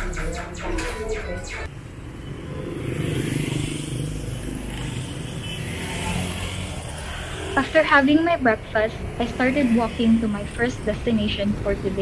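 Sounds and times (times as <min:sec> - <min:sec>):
scooters and cars passing: 0:01.6 - 0:12.0.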